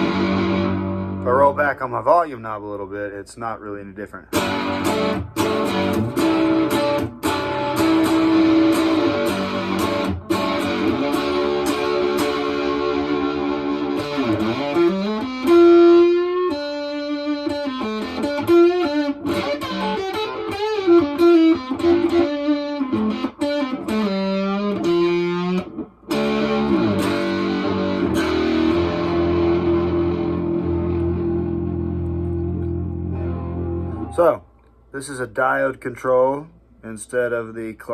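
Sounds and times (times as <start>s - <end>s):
electric guitar with fuzz distortion: 0.0s - 1.7s, 4.3s - 34.9s.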